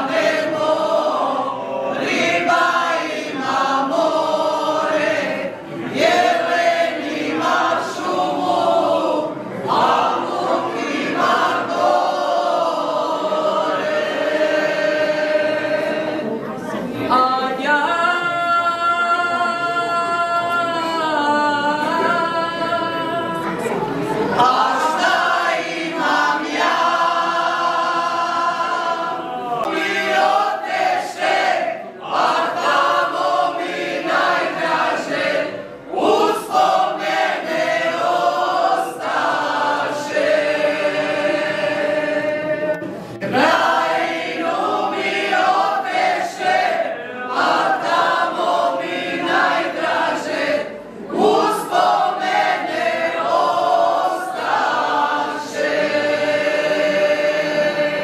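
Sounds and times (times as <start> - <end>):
women singing a cappella: 0.0 - 58.0.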